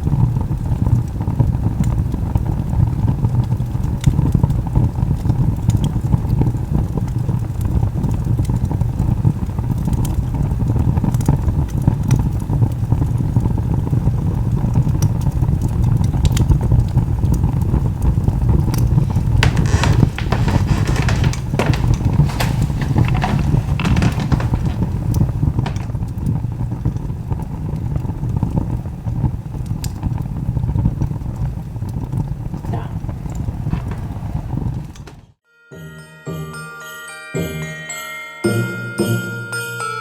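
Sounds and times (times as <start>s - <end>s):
wood fire crackling and popping: 0.5s - 35.1s.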